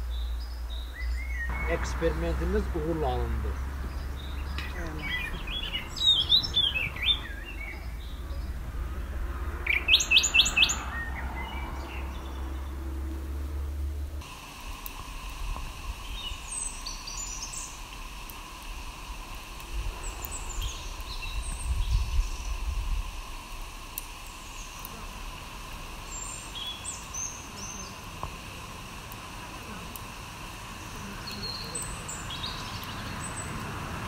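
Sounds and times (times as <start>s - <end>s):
birds chirping: 0.0s - 14.2s, 15.9s - 34.0s
steady background hiss: 0.0s - 34.0s.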